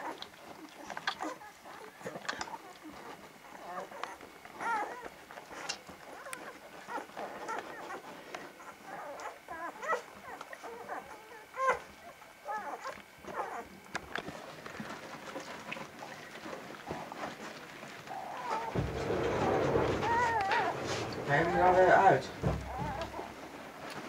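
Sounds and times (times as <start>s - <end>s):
puppies crying: 0.0s - 24.0s.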